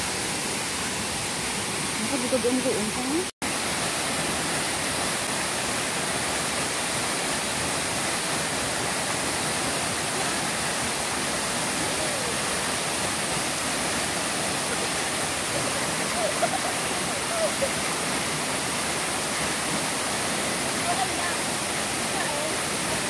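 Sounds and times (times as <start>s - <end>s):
waterfall rushing into pool: 0.0s - 23.0s.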